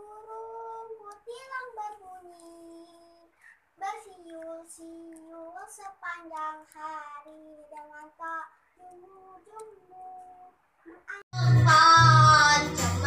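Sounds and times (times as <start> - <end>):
girl singing: 0.0 - 13.0.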